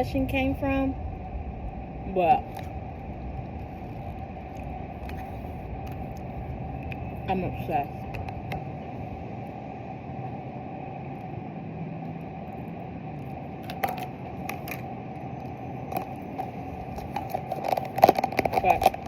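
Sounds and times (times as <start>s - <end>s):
background hum: 0.0s - 19.0s.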